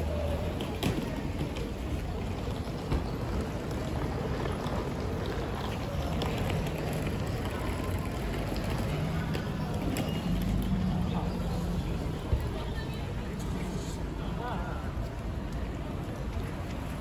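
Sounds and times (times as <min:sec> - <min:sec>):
car and bus traffic: 0:00.0 - 0:17.0
faint voices: 0:00.0 - 0:17.0.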